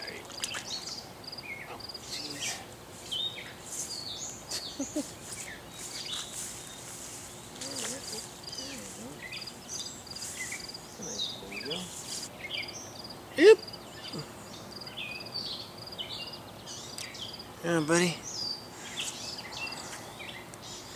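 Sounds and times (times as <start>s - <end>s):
songbirds chirping and singing: 0.0s - 20.9s.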